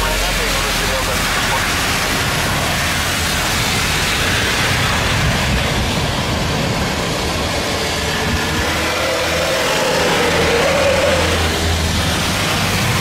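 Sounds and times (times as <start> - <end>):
heavy rain: 0.0 - 13.0
jet engine rushing: 0.0 - 13.0.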